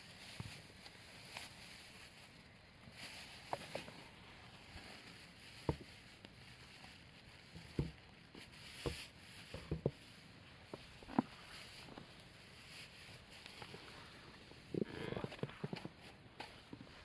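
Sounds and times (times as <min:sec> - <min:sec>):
faint hiss of burning: 0:00.0 - 0:17.0.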